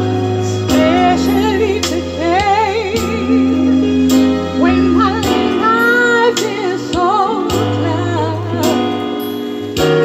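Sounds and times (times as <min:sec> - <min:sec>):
instrumental backing with a beat: 0:00.0 - 0:10.0
woman singing into a microphone: 0:00.0 - 0:10.0.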